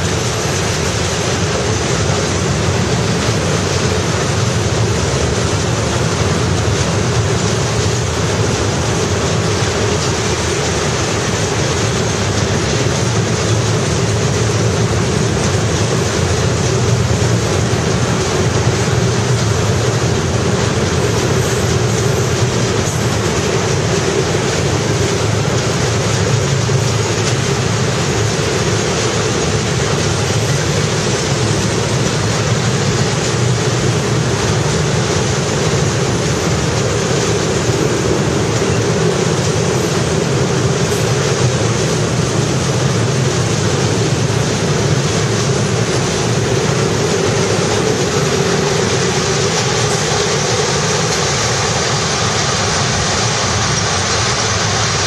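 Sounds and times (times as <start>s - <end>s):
steel wheels running on rails: 0.0s - 55.0s.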